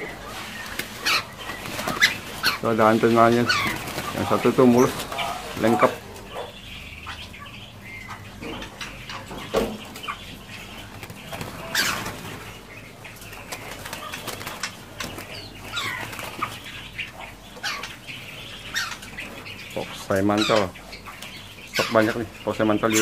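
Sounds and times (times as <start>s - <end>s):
songbirds chirping and whistling: 0.0s - 23.0s.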